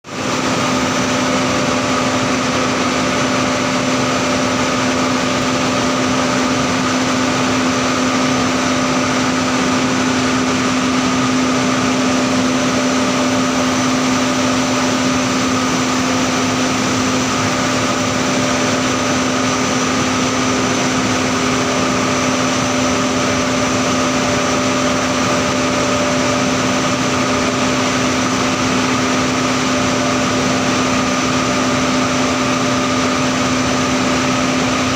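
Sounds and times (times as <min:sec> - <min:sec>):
industrial machinery running: 0:00.1 - 0:34.9.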